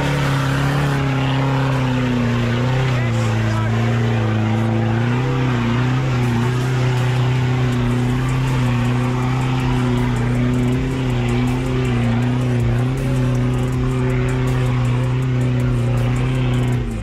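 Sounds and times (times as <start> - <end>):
pickup engine at high revs: 0.0 - 17.0.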